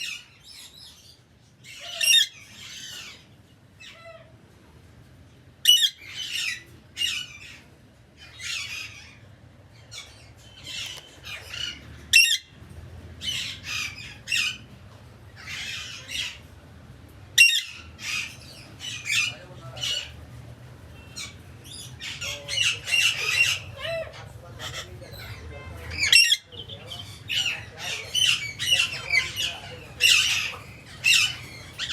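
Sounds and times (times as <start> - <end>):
birds squawking harshly: 0.0 - 4.4, 5.6 - 16.6, 17.2 - 31.9.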